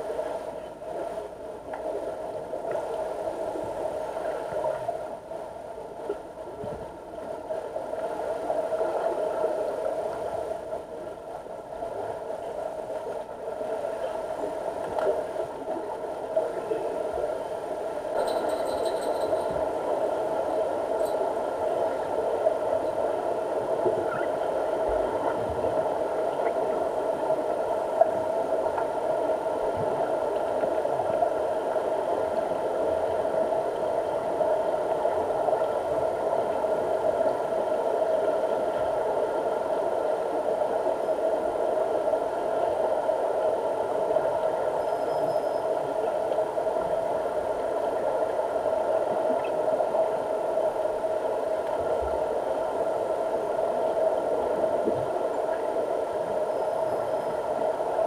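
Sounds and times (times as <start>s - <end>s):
faint constant tones: 0.0s - 58.0s
underwater pool hum: 0.0s - 58.0s.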